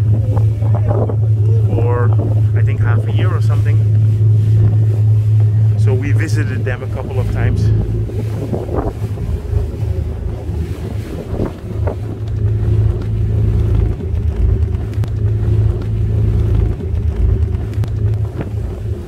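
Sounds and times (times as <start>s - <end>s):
ferry engines droning: 0.0s - 19.0s
wind buffeting microphone: 0.0s - 19.0s.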